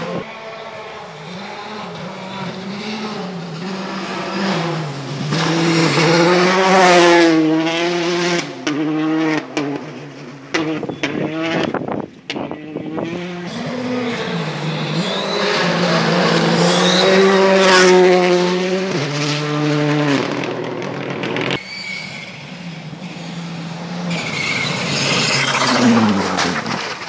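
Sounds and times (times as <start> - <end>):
rally car engines at high revs: 0.0 - 21.6, 22.2 - 27.0
gravel and tyre noise: 0.0 - 27.0.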